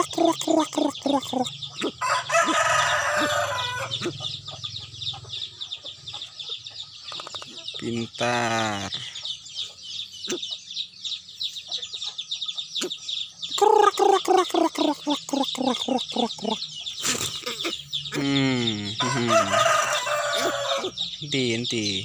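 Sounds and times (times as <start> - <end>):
bird rapid clucking calls: 0.0 - 22.0
birds chirping: 0.0 - 22.0.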